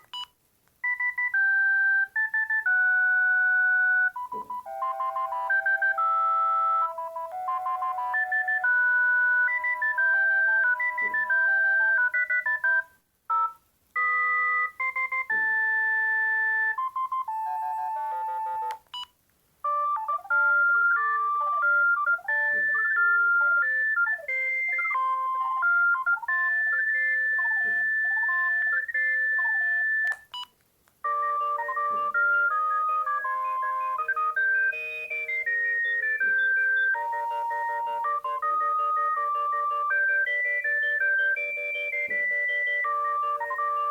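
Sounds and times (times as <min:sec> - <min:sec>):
phone ringtone beeping melodies: 0:00.0 - 0:43.9.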